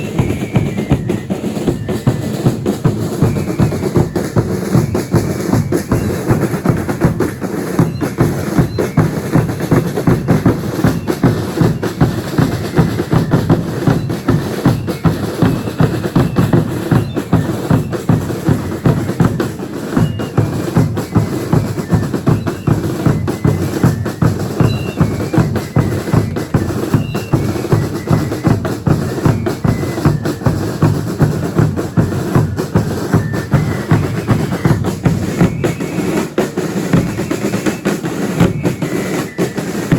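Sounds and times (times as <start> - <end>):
snare drum: 0.0 - 39.9.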